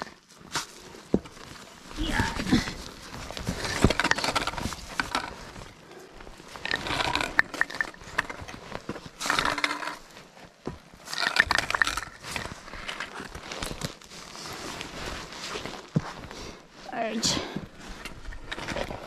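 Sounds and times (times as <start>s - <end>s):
footsteps crunching on gritty trail: 0.0s - 19.0s.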